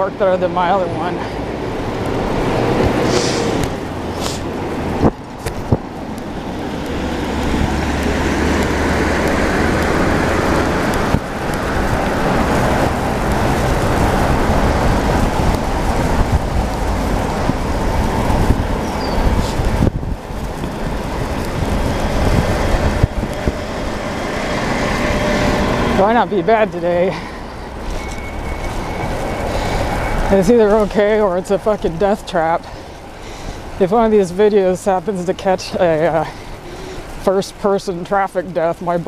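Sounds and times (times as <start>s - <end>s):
wind rushing over microphone: 0.0s - 37.7s
road traffic: 0.0s - 39.0s.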